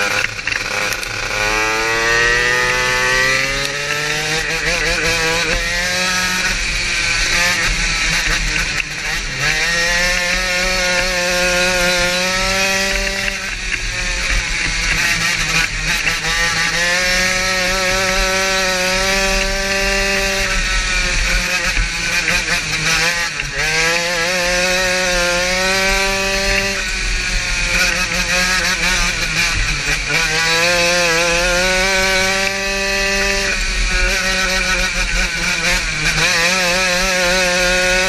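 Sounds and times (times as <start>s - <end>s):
kart engine revving: 0.0s - 38.0s.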